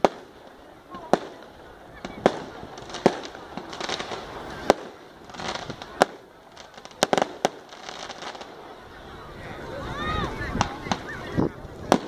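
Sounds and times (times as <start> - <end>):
faint firework crackling: 0.0 - 12.0.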